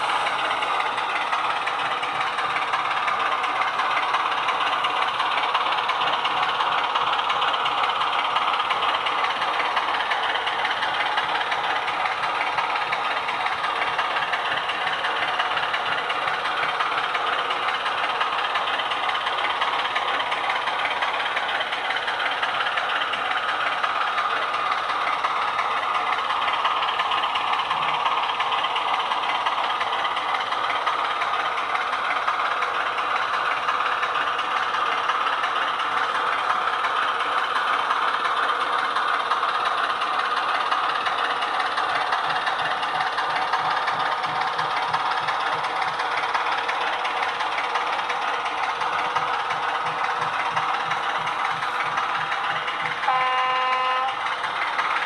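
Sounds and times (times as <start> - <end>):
diesel engine sound from small speaker: 0.0 - 55.0.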